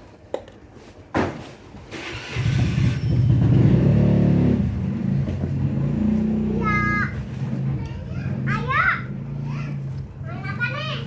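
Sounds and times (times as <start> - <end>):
engine starting and running: 1.9 - 11.0.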